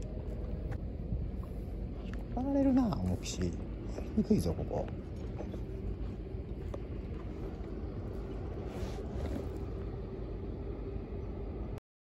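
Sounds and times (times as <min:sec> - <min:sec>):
boat engine droning: 0:00.0 - 0:11.8.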